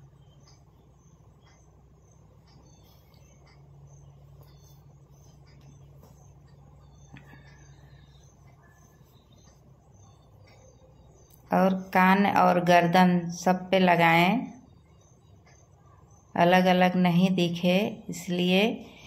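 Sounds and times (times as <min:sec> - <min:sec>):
faint high-pitched chirps: 0:00.0 - 0:19.0
low steady hum: 0:00.0 - 0:19.0.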